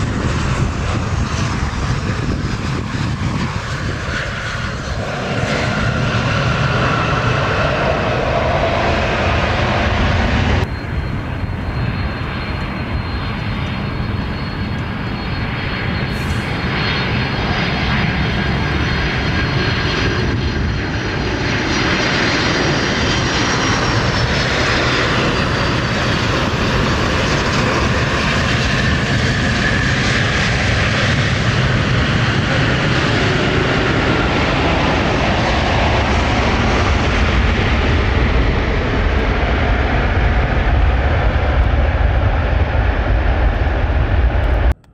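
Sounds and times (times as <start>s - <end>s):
aircraft engines rumbling: 0.0s - 44.9s
high engine whine: 0.0s - 44.9s.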